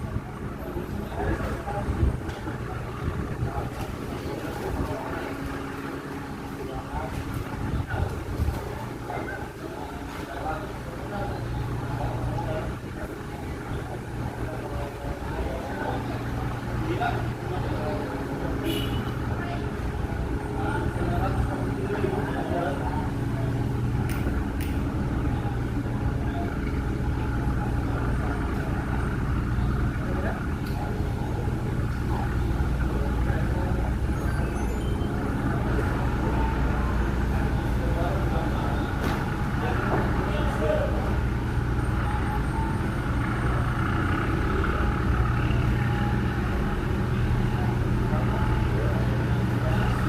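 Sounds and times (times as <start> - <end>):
ship engine humming: 0.0 - 50.0.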